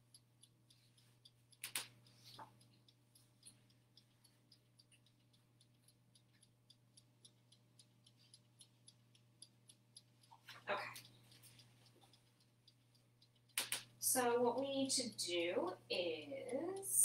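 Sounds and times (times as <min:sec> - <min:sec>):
dial timer ticking: 0:00.0 - 0:17.0
low steady hum: 0:00.0 - 0:17.0.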